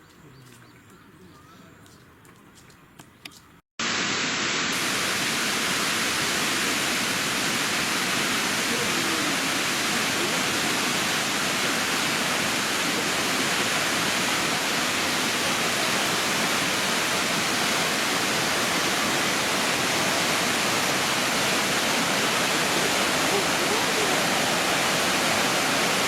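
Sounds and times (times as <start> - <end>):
waterfall rushing: 3.8 - 26.0.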